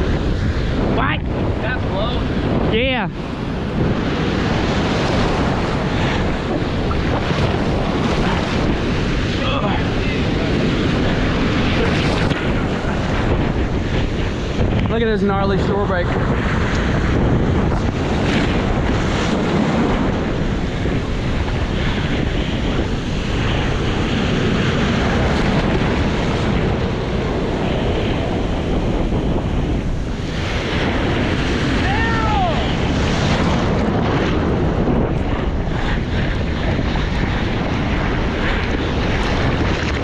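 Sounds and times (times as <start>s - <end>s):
waves crashing: 0.0s - 40.0s
whitewater churning: 0.0s - 40.0s
wind rushing over microphone: 0.0s - 40.0s.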